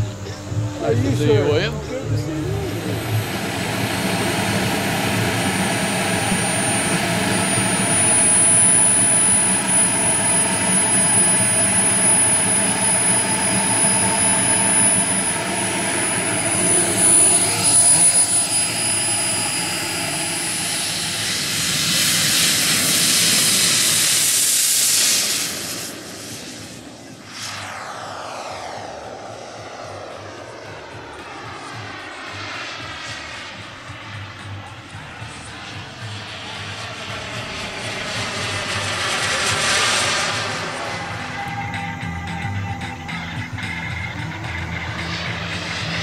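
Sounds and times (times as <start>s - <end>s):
model jet turbine whining: 0.0s - 46.0s.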